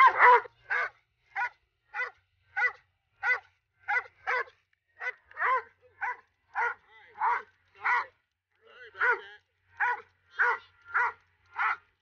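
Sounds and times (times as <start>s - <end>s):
large dog barking: 0.0s - 8.2s, 8.9s - 11.9s.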